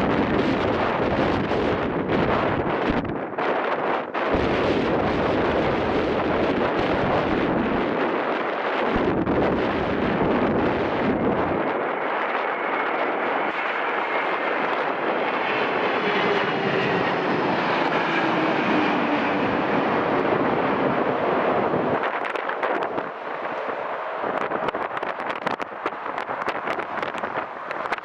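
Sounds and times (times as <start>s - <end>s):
airliner engines rushing: 0.0s - 28.0s
wind rumble on microphone: 0.0s - 28.0s.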